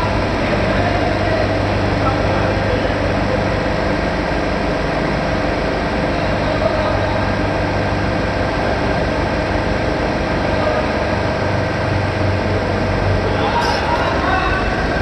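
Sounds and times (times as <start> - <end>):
industrial machinery humming: 0.0 - 15.0.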